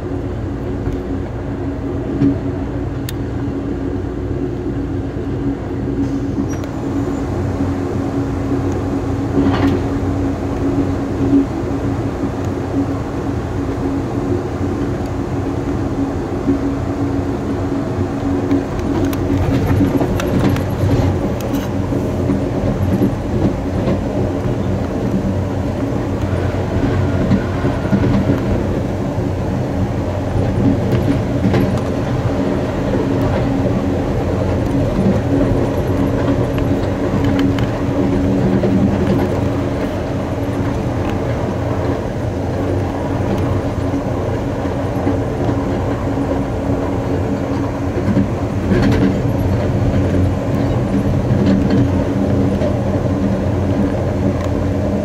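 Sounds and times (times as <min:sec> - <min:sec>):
constant low hum: 0:00.0 - 0:55.0
train wheels rumbling on rails: 0:00.0 - 0:55.0
rail joint clicks: 0:00.6 - 0:03.4, 0:05.7 - 0:55.0.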